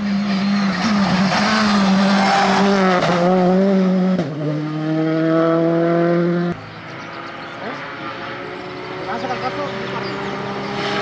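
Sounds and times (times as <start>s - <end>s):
rally car engine at full throttle: 0.0s - 11.0s.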